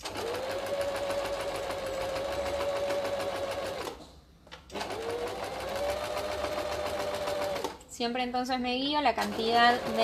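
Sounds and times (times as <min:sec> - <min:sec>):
sewing machine stitching: 0:00.0 - 0:04.0, 0:04.7 - 0:07.8, 0:09.1 - 0:10.0.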